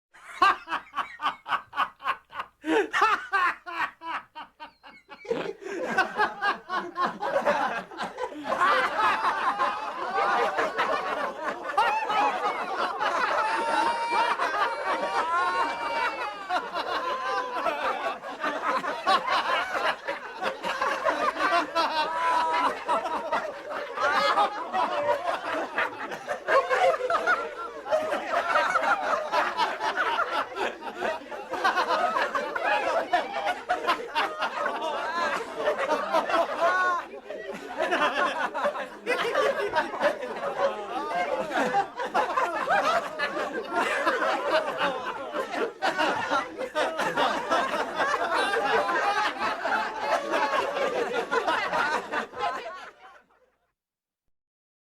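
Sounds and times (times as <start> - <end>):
men laughing: 0.2 - 53.2.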